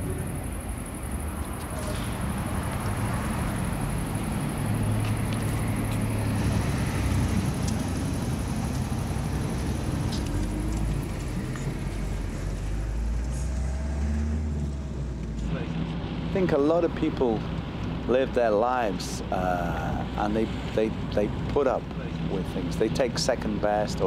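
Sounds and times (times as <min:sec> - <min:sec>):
car engine drone: 0:00.0 - 0:24.0
road noise: 0:00.0 - 0:24.0.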